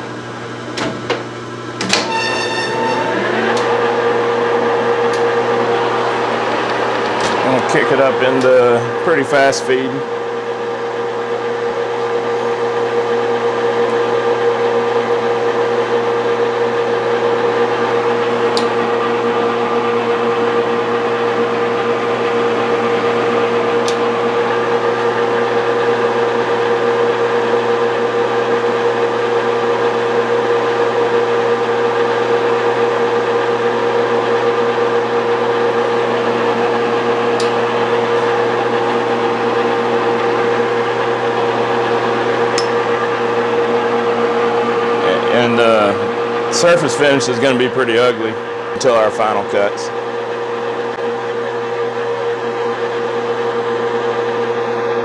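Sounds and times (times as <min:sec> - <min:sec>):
metal lathe motor and gear hum: 0:00.0 - 0:55.0.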